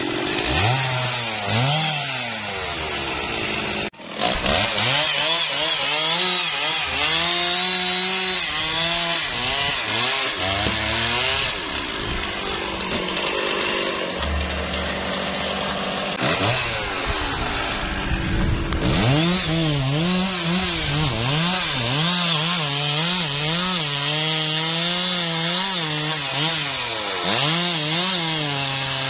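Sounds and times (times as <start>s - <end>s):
chainsaw revving: 0.0s - 29.0s.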